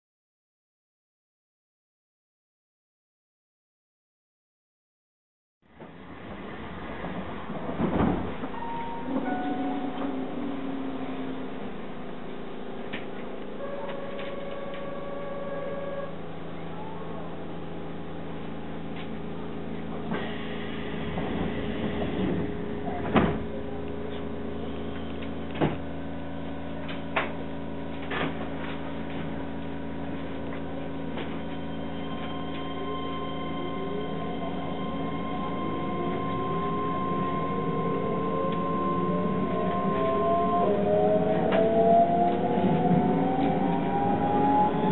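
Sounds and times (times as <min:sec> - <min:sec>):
electric train humming: 0:05.8 - 0:44.9.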